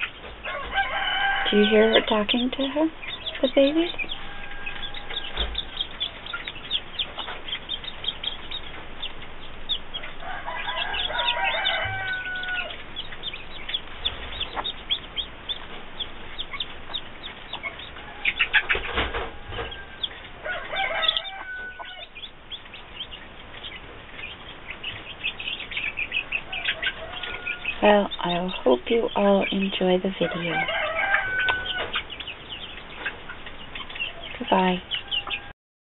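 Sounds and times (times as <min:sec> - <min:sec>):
chicks peeping: 0:00.0 - 0:35.5
hen clucking: 0:00.0 - 0:35.5.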